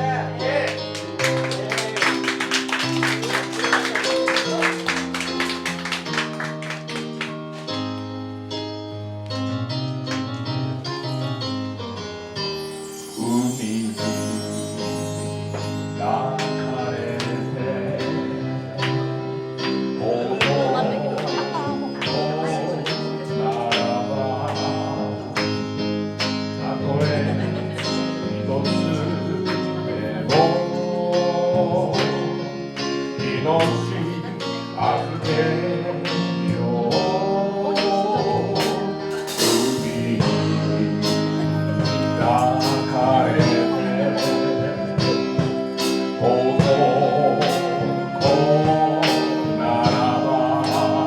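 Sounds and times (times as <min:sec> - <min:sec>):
live band music: 0:00.0 - 0:51.0.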